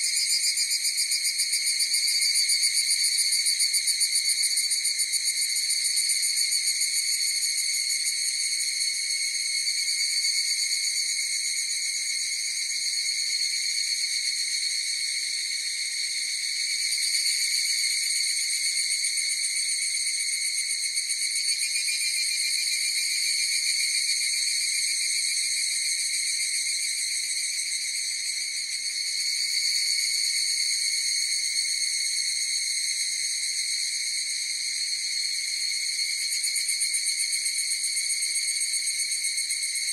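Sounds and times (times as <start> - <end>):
cicada chorus high ringing: 0.0 - 39.9.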